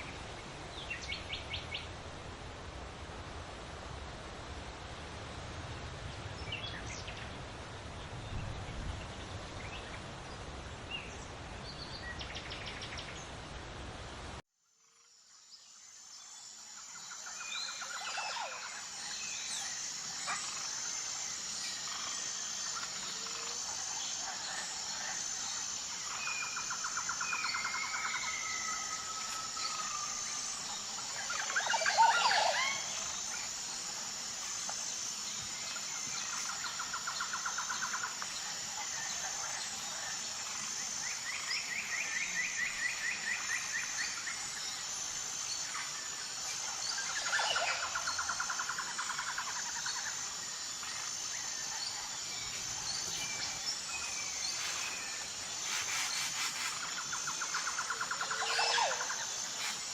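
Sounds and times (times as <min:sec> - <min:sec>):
steady rustling hiss: 0:00.0 - 0:14.4, 0:15.3 - 0:59.9
steady high-pitched buzz: 0:00.0 - 0:59.9.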